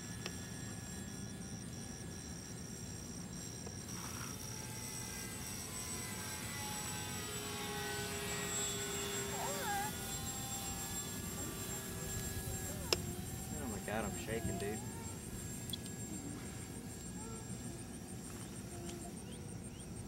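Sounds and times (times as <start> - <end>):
model plane motors droning: 0.0 - 20.0.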